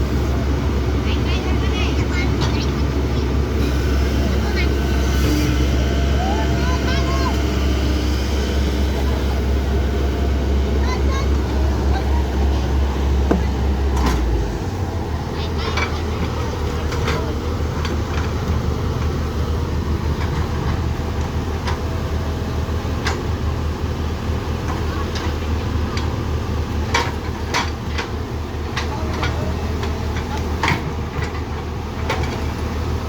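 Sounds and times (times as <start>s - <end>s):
excavator diesel engine rumbling: 0.0s - 33.0s.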